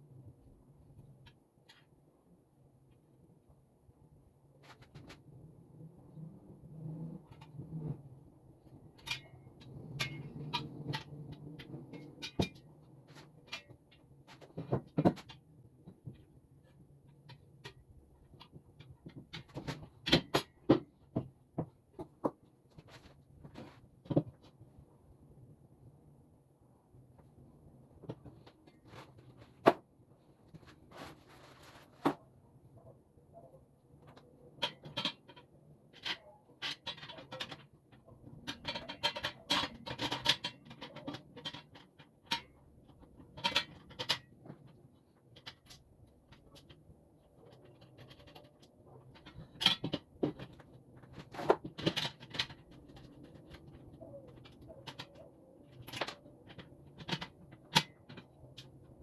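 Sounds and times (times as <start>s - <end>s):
rustling and scraping: 4.6s - 24.9s, 27.2s - 33.0s, 34.0s - 59.0s.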